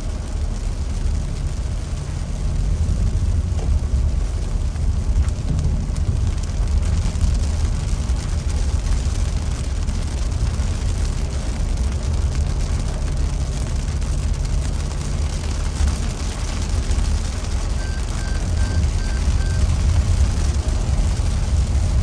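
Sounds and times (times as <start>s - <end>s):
rain hitting windshield: 0.0s - 22.0s
tyres rumbling on wet road: 0.0s - 22.0s.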